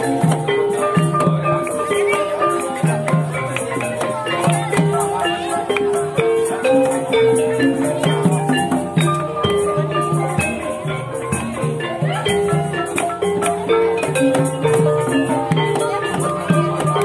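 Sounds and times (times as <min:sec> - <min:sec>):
gong-chime pots and metallophones ringing: 0:00.0 - 0:17.0
hand drum strokes: 0:00.0 - 0:17.0.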